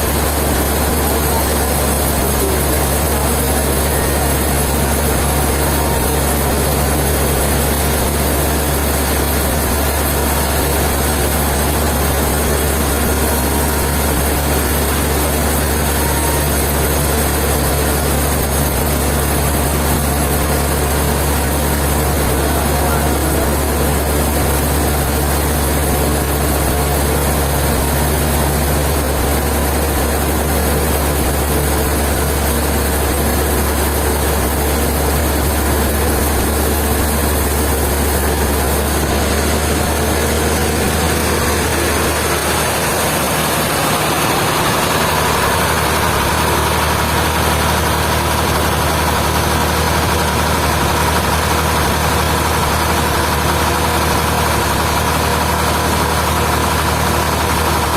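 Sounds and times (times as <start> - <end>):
sawmill machinery humming: 0.0 - 57.9.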